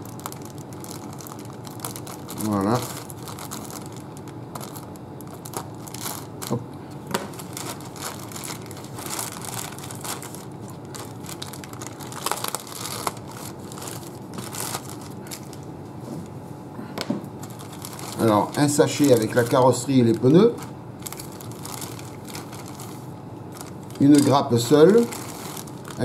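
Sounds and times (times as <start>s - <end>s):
plastic bag crinkling: 0.0s - 15.7s, 17.4s - 26.0s.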